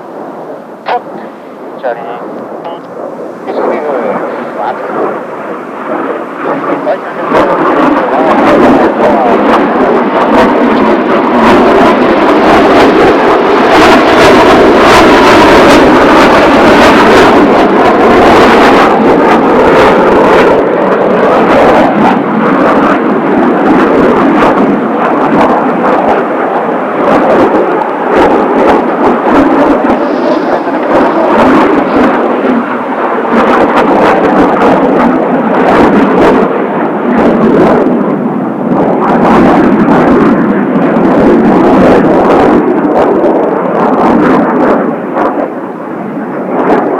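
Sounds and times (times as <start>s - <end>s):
jet aircraft roaring overhead: 0.0s - 46.9s.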